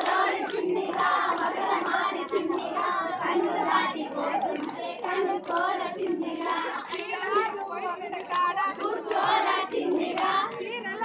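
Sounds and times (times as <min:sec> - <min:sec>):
hands clapping to a beat: 0:00.0 - 0:11.0
women singing in chorus: 0:00.0 - 0:11.0.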